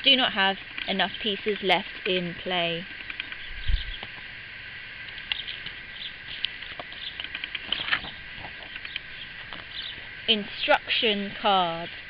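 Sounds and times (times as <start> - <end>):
birds chirping: 0.0 - 12.0
faint steady hiss: 0.0 - 12.0.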